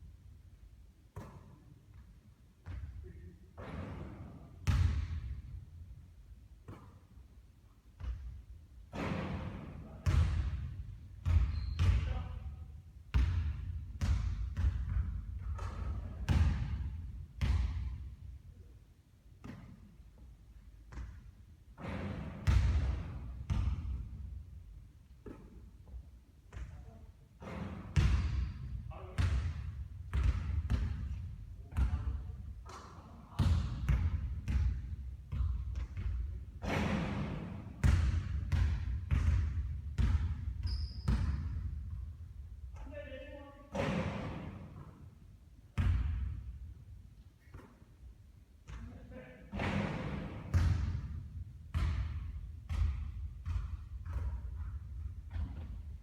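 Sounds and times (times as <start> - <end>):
basketball bouncing on court: 1.1 - 2.0, 2.6 - 3.0, 3.6 - 5.6, 6.6 - 7.1, 8.0 - 18.1, 19.4 - 19.9, 20.8 - 24.4, 25.2 - 45.1, 45.8 - 46.6, 48.6 - 56.0.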